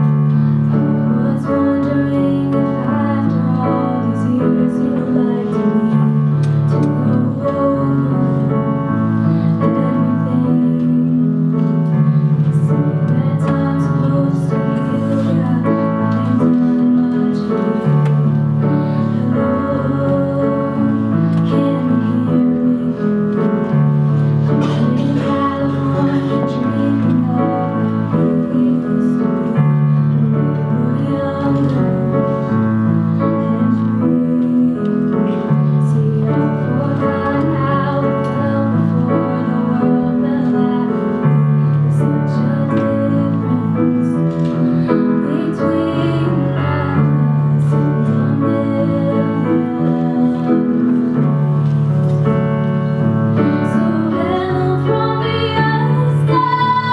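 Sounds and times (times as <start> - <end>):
piano chords: 0.0 - 56.9.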